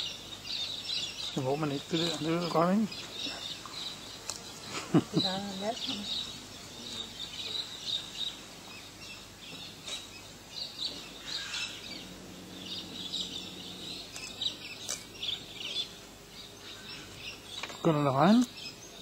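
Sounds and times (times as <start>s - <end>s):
birds chirping: 0.0s - 19.0s
faint low hum: 0.0s - 19.0s
outdoor background noise: 0.0s - 19.0s.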